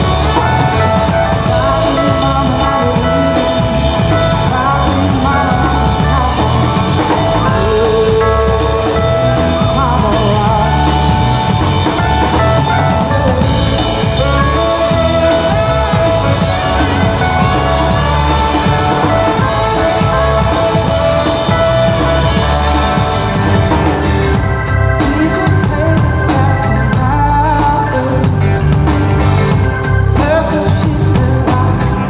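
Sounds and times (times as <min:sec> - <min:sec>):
drum kit beat: 0:00.0 - 0:32.0
live rock band playing: 0:00.0 - 0:32.0.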